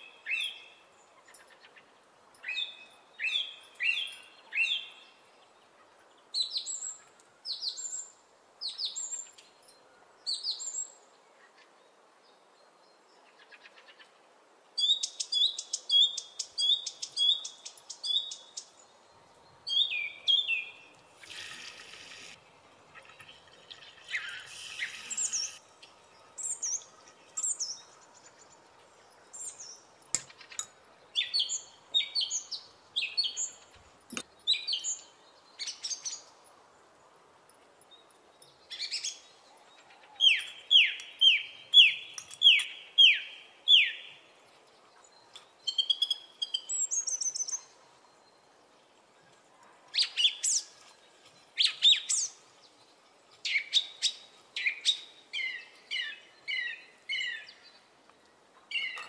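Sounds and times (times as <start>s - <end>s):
small birds chirping and singing: 0.0s - 14.2s, 14.8s - 59.0s.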